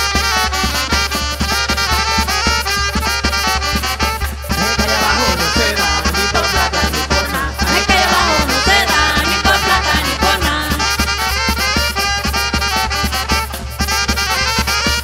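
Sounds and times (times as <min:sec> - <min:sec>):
upbeat brass music with bass beat: 0:00.0 - 0:15.0.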